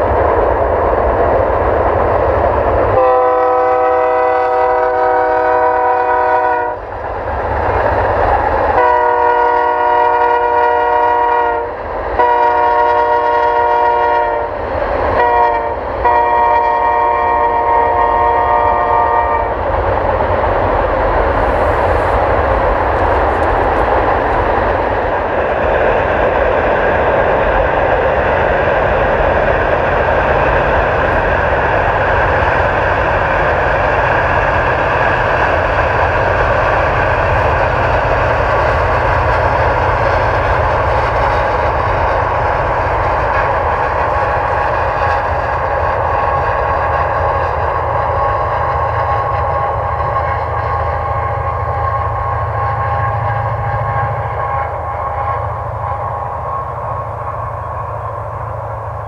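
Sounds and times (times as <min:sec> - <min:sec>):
freight train rolling past: 0:00.0 - 0:59.0
locomotive passing: 0:00.0 - 0:59.0.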